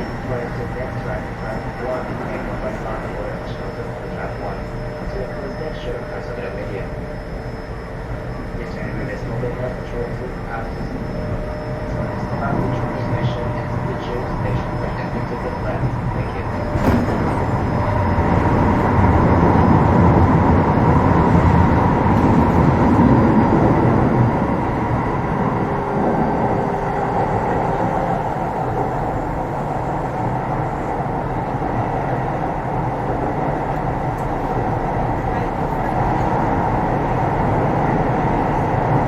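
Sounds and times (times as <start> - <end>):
faint steady tones: 0.0 - 39.0
train wheels rumbling on rail: 0.0 - 39.0.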